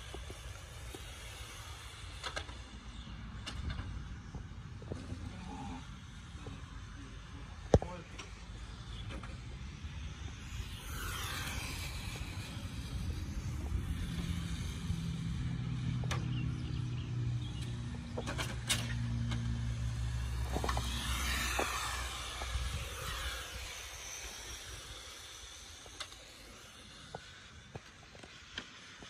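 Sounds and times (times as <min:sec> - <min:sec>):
electric rc cars running: 0:00.0 - 0:29.0
steady low hum: 0:00.0 - 0:29.0.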